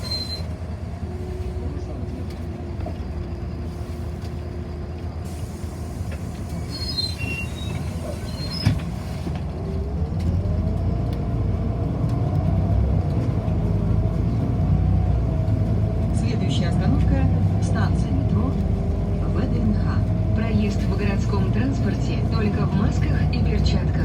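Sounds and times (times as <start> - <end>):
bus engine accelerating: 0.0 - 24.0.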